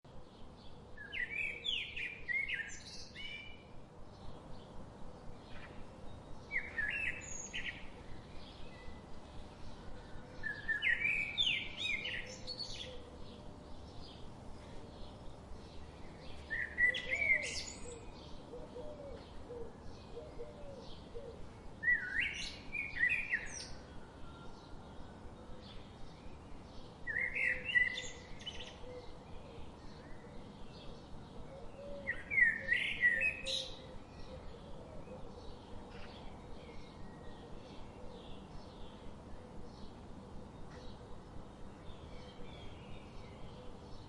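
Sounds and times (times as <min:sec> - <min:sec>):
bird singing complex song: 0:00.0 - 0:44.0.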